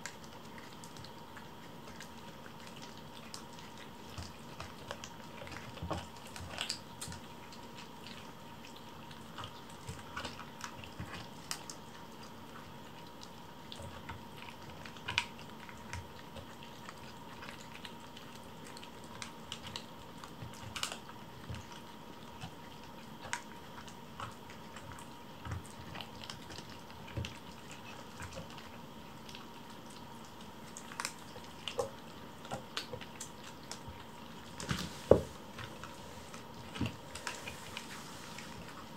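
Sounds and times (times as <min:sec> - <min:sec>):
faint steady hum: 0:00.0 - 0:38.9
kittens chewing and licking: 0:00.0 - 0:38.9.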